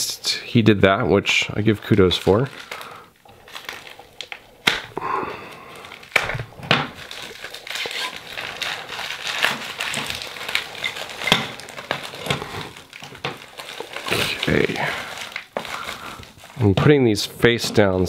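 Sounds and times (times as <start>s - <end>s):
paper wrapping crinkling and rustling: 1.3s - 18.0s.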